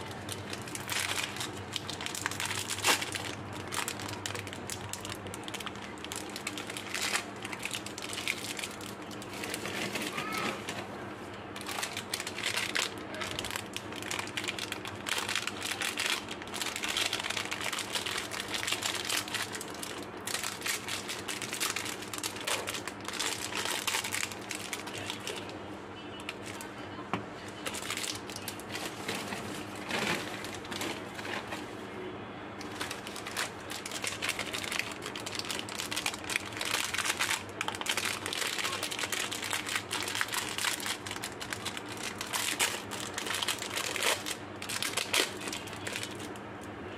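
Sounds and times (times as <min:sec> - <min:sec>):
candy wrappers crinkling: 0:00.0 - 0:10.8, 0:11.5 - 0:26.8, 0:27.4 - 0:31.7, 0:32.6 - 0:46.7.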